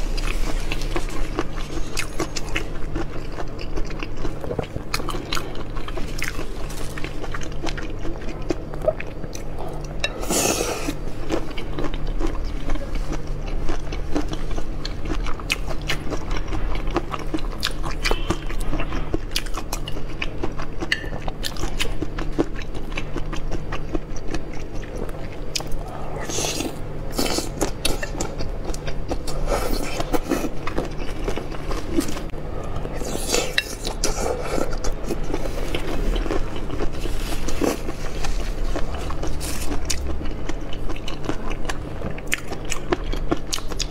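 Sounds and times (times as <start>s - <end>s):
wet sticky chewing: 0.0s - 10.2s, 10.8s - 43.9s
steady low hum: 0.0s - 43.9s.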